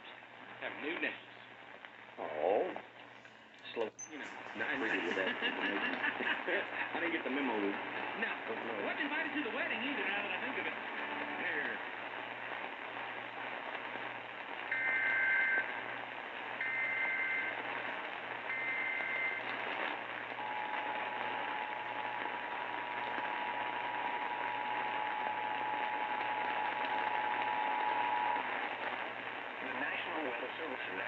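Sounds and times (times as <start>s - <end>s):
radio hiss: 0.0s - 31.0s.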